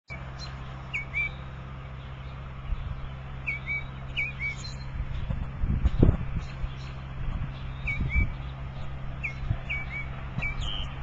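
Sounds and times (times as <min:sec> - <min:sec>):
small bird chirping: 0:00.1 - 0:11.0.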